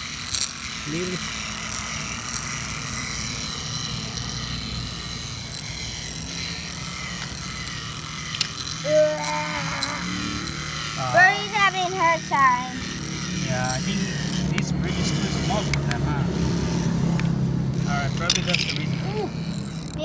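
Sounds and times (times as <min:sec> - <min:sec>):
toy train motors whirring: 0:00.0 - 0:20.0.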